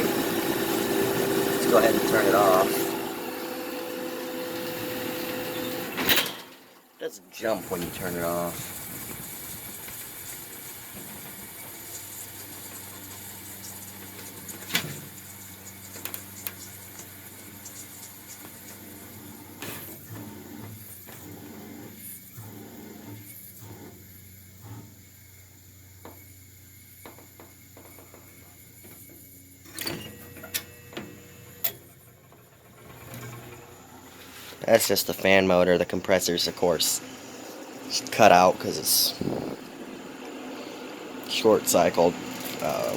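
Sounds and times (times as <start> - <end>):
fan motor humming: 0.0 - 6.0, 7.0 - 21.0, 23.4 - 42.9.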